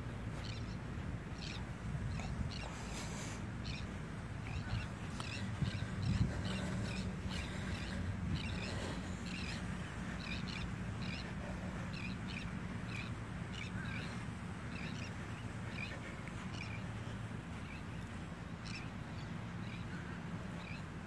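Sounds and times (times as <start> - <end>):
steady low rumble: 0.0 - 21.0
footsteps squeaking in dry sand: 0.1 - 21.0.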